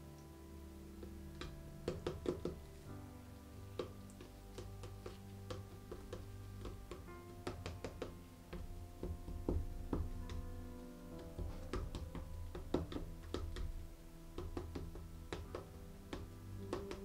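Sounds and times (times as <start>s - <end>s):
background music of held notes: 0.0s - 17.0s
stir stick tapping plastic cup: 1.0s - 2.7s, 3.7s - 10.6s, 11.2s - 17.0s.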